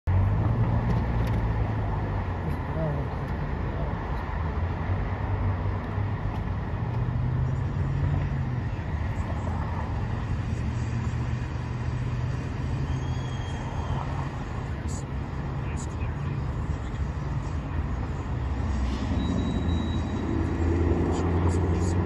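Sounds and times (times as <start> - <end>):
road traffic passing: 0.0 - 22.0
diesel locomotive engine drone: 0.1 - 22.0.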